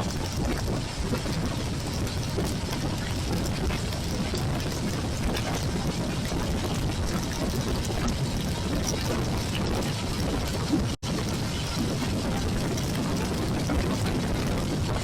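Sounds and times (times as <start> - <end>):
heavy rain: 0.0 - 15.0
wind rushing on microphone: 0.0 - 15.0.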